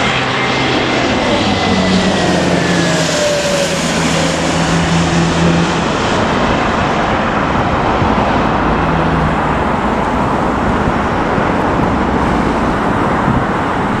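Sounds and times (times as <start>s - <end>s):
jet airliner passing overhead: 0.0s - 14.0s.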